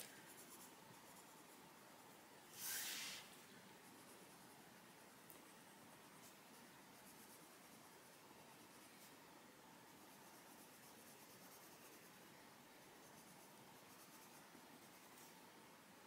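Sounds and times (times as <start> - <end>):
pencil scratching on paper: 0.0 - 9.2, 9.9 - 15.4.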